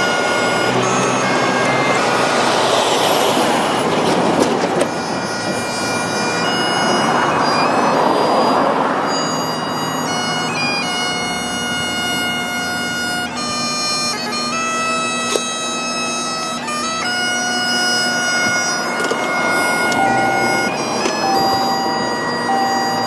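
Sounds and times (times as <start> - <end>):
bagpipe melody over drone: 0.0 - 23.0.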